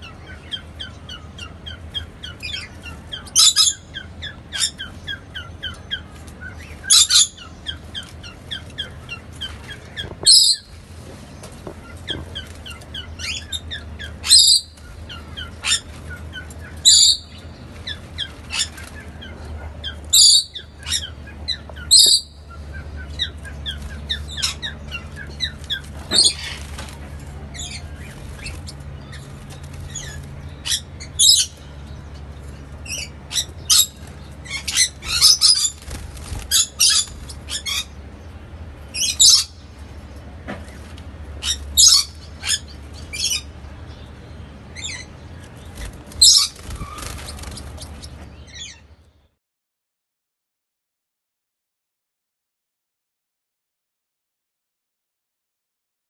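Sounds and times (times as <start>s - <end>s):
birds chirping and squawking: 0.0s - 49.4s
steady low hum: 0.0s - 49.4s.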